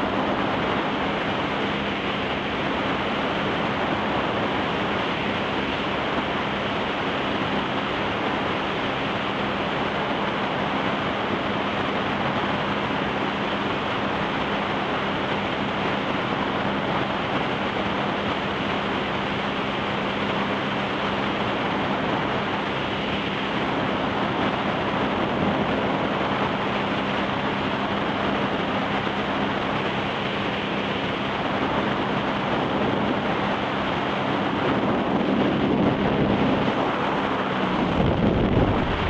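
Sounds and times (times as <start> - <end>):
boat engine drone: 0.0 - 39.0
wind and water spray rushing: 0.0 - 39.0.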